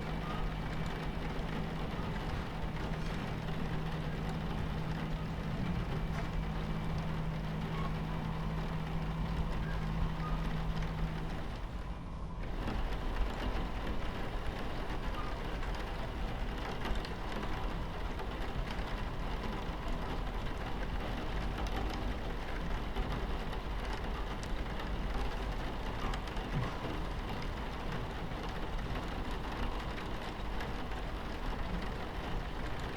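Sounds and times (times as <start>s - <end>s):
rain pattering on window: 0.0s - 32.9s
train rumbling on tracks: 0.0s - 32.9s.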